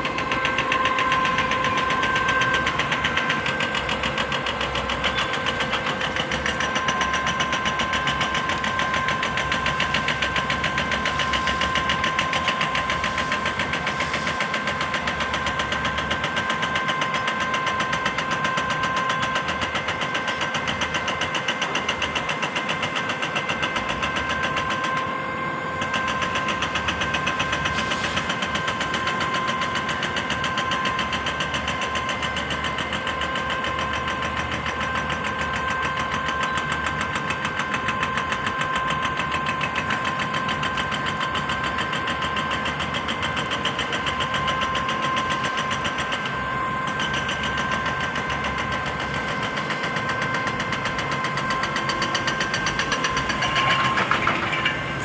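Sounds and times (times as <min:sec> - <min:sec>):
diesel engine running: 0:00.0 - 0:55.0
hydraulic pump whine: 0:00.0 - 0:55.0.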